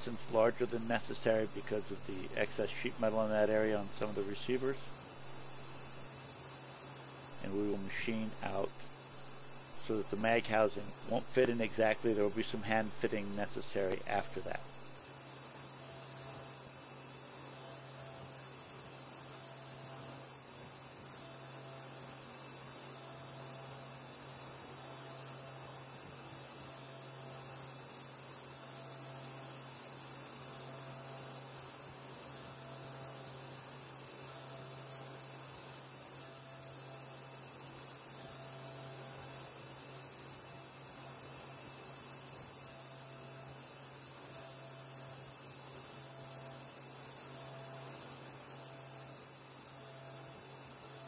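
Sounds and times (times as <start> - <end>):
milling machine hum and whine: 0.0 - 51.0.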